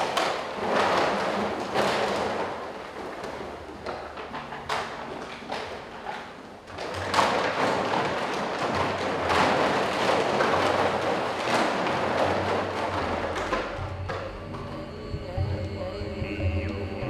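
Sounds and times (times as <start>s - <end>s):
plastic bottles crackling and clattering: 0.0s - 15.3s.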